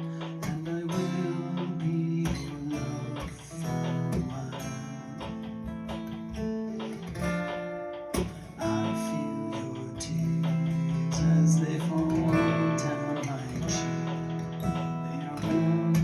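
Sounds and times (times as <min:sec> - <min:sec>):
acoustic guitar bossa nova: 0:00.0 - 0:16.0.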